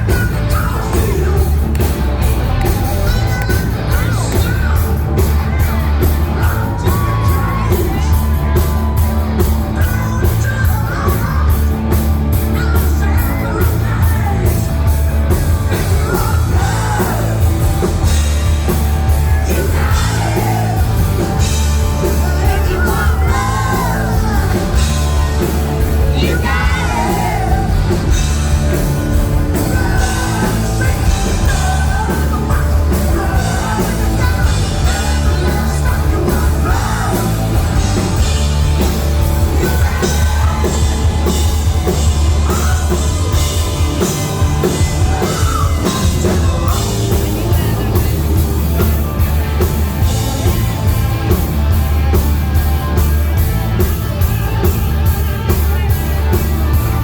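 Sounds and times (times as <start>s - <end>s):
person singing: 0.0s - 49.2s
hard rock band playing: 0.0s - 57.0s.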